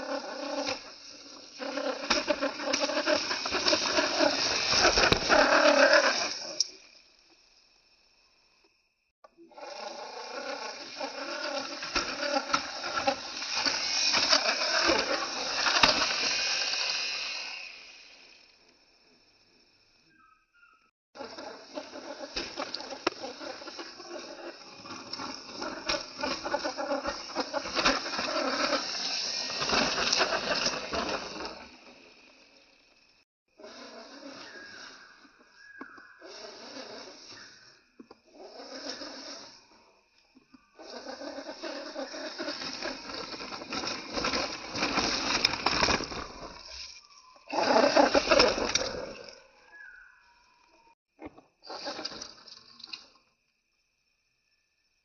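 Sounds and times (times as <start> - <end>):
toy car motor and tyres grinding: 0.0 - 7.4, 9.4 - 18.6, 21.2 - 50.0, 51.2 - 53.2.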